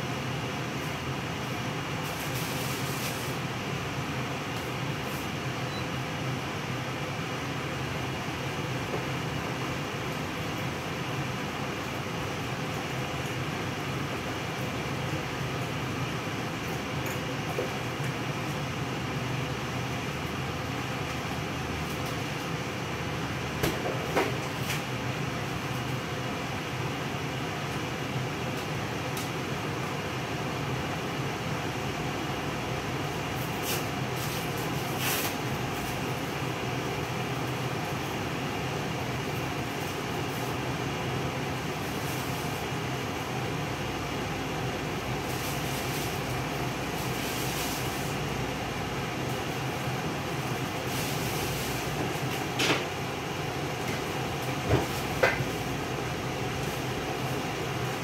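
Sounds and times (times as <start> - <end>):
exhaust fan humming: 0.0 - 58.0.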